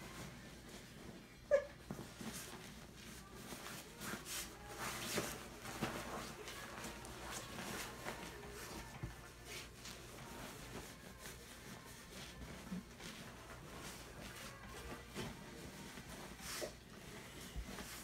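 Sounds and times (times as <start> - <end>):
fabric rustling and scuffing: 0.0 - 18.0.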